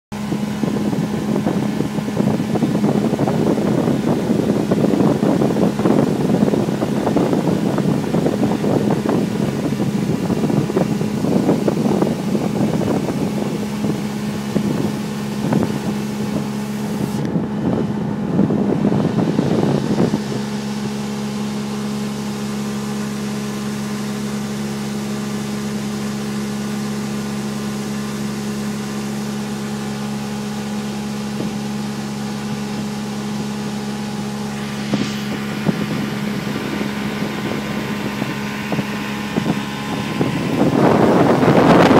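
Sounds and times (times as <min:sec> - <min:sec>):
boat motor humming: 0:00.0 - 0:41.9
choppy rushing wind and water: 0:00.1 - 0:41.9.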